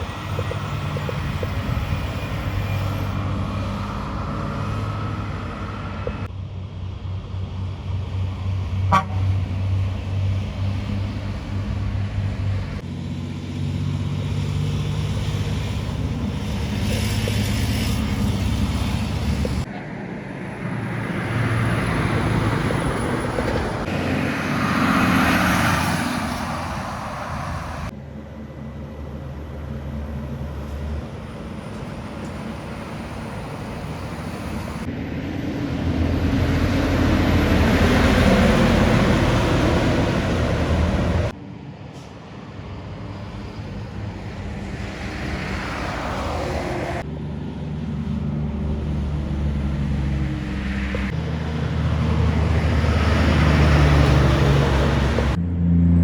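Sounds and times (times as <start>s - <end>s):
truck engine drone: 0.0s - 56.0s
tyre and road noise: 0.0s - 56.0s.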